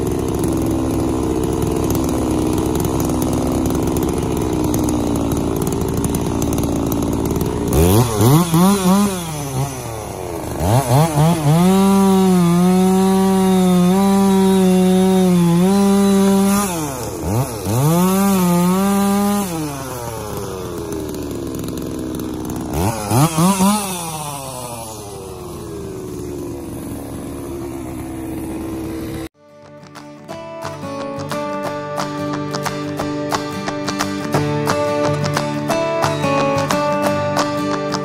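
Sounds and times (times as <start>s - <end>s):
chainsaw cutting log: 0.0s - 38.0s.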